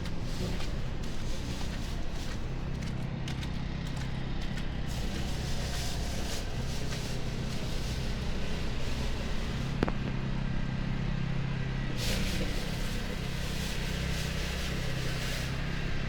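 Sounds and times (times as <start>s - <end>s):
footsteps crunching in snow: 0.0s - 9.9s, 12.0s - 16.0s
low rumble of city traffic: 0.0s - 16.0s.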